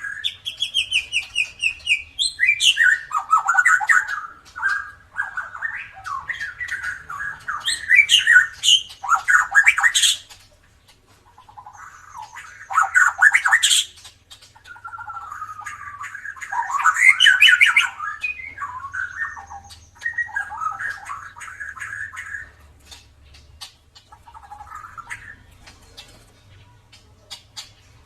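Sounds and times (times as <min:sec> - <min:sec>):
songbird whistling and chattering: 0:00.0 - 0:28.0.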